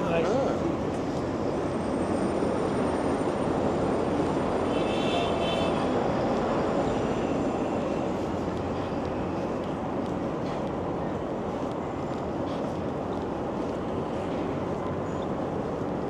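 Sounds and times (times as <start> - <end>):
rumbling street noise: 0.0 - 16.0.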